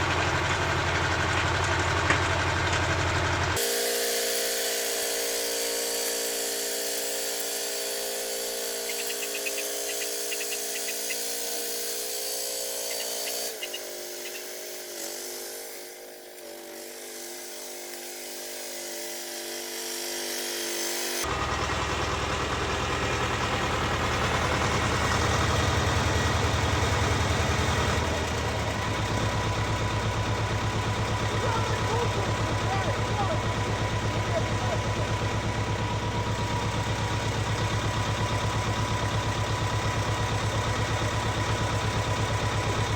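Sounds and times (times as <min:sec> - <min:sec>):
tiller engine running: 0:00.0 - 0:42.9.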